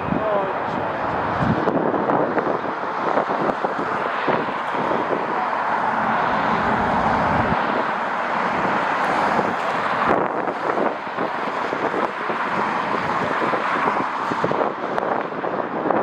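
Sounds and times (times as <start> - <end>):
jet engines roaring: 0.0 - 16.0
wind buffeting microphone: 0.0 - 16.0.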